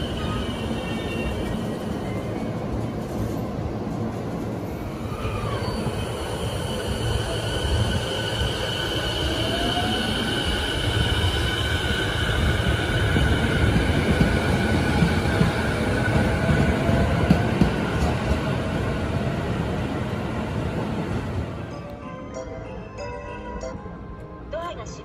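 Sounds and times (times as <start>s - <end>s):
train wheels rumbling on rail: 0.0s - 21.6s.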